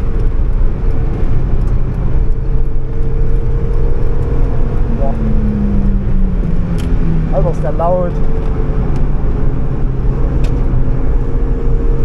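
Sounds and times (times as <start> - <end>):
car engine running hard: 0.0 - 12.0
road and wind rumble: 0.0 - 12.0.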